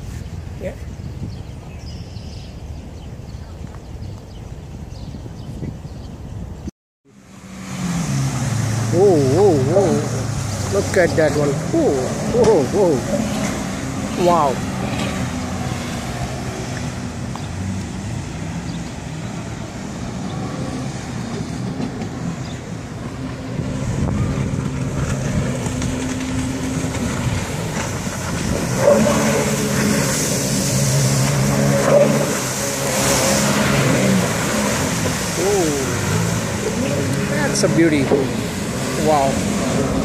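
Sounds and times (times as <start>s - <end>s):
jet ski engines revving: 7.1s - 40.0s
water spray rushing: 7.2s - 40.0s.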